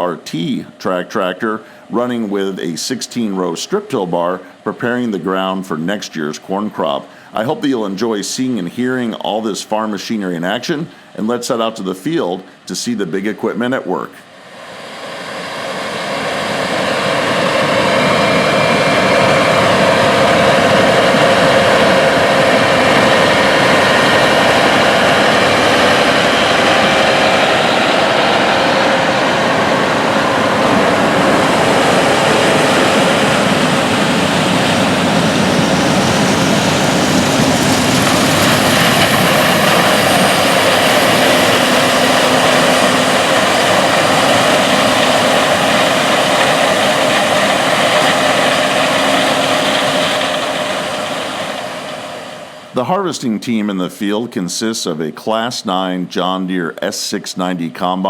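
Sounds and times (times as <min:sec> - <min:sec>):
diesel farm machinery drone: 0:00.0 - 0:58.0.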